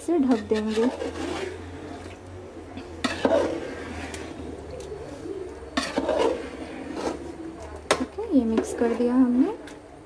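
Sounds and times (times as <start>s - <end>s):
wet squelching of stirred curry: 0.2s - 9.1s.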